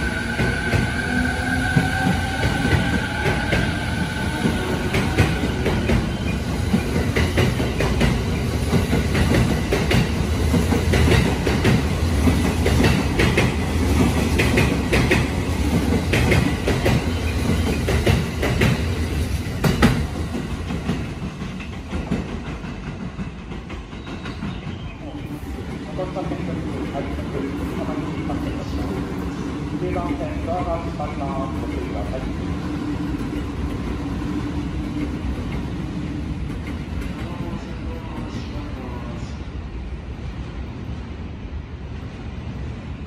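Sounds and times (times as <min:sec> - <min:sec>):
train rumbling past: 0:00.0 - 0:43.0.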